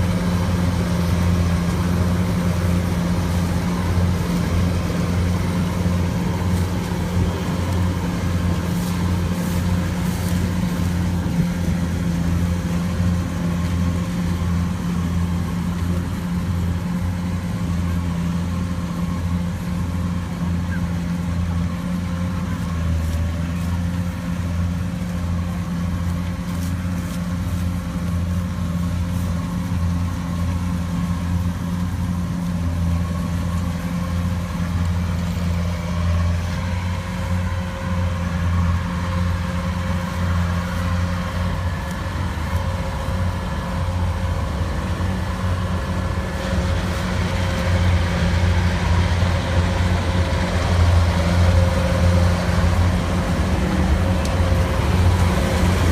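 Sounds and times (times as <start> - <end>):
harvester engine droning: 0.0 - 55.9.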